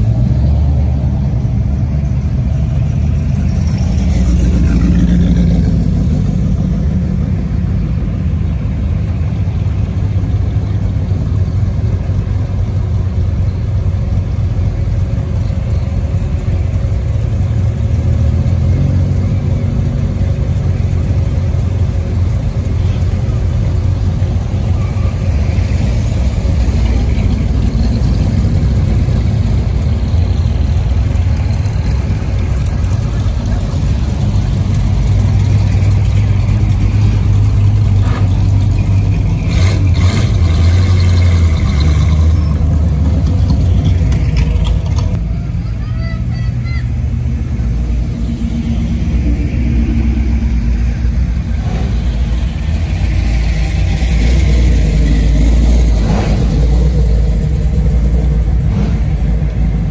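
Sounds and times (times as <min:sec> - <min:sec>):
car engines running in traffic: 0:00.0 - 0:59.9.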